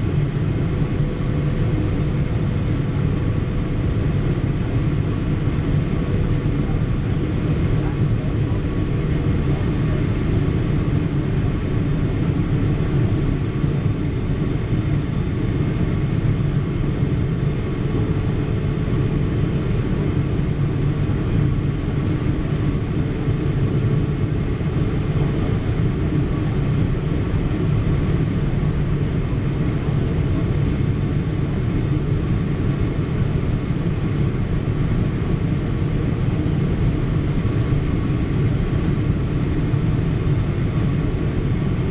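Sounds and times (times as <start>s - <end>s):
airliner cabin airflow and engine noise: 0.0s - 41.9s.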